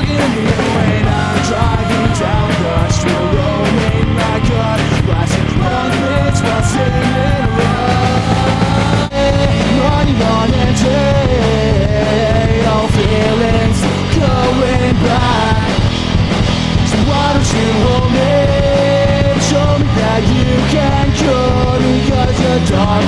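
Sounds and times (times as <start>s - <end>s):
loud rock music: 0.0s - 23.0s.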